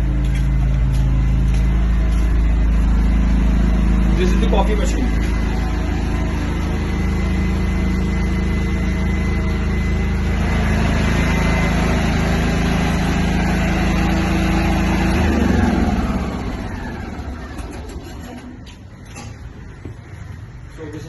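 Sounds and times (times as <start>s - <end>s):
portable generator humming: 0.0s - 21.0s.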